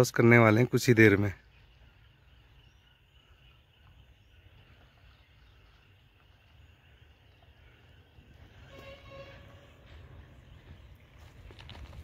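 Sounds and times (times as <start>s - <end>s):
faint insect drone: 1.4s - 11.7s.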